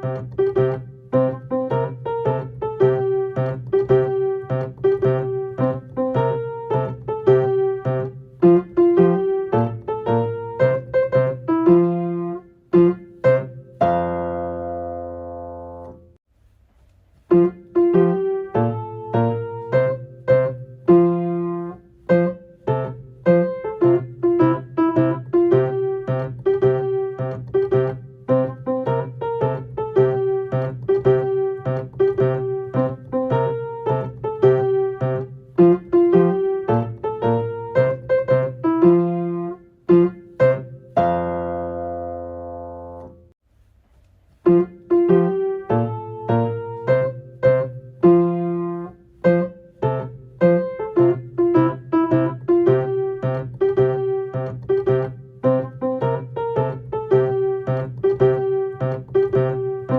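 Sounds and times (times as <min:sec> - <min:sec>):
solo piano playing: 0:00.0 - 0:16.2, 0:17.2 - 0:43.4, 0:44.3 - 0:59.9.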